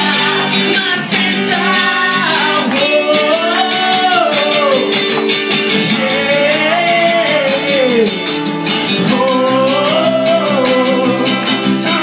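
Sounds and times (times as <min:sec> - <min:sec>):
live pop-rock band playing: 0:00.0 - 0:12.0.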